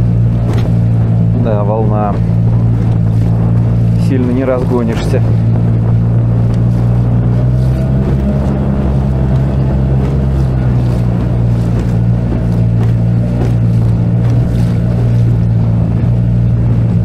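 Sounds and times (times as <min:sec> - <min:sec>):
boat moving through choppy waves: 0:00.0 - 0:17.0
outboard motor running: 0:00.0 - 0:17.0.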